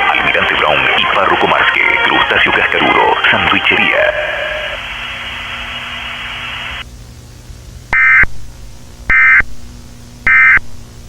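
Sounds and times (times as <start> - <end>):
harsh buzzing data bursts: 0.0 - 11.0
steady hiss: 0.0 - 11.0.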